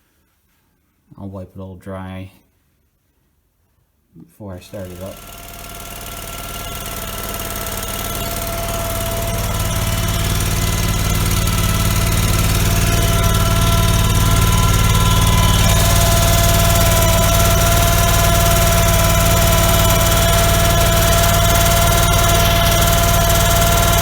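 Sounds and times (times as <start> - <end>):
backhoe engine idling: 4.8 - 24.0.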